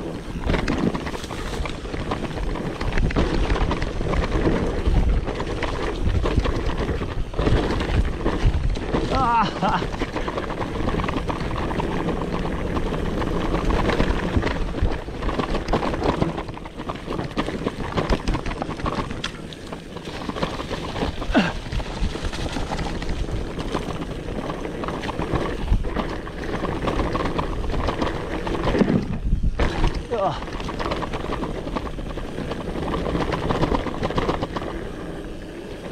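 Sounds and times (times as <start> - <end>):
bike rattling and clicking: 0.0 - 35.9
tyres rolling over dirt: 0.0 - 35.9
wind on microphone: 0.0 - 35.9.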